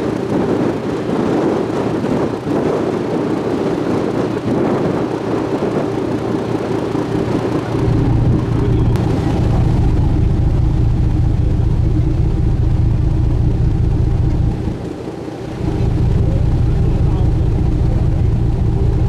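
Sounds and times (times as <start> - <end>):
boat engine running: 0.0 - 19.0
water noise: 0.0 - 19.0
wind: 0.0 - 19.0.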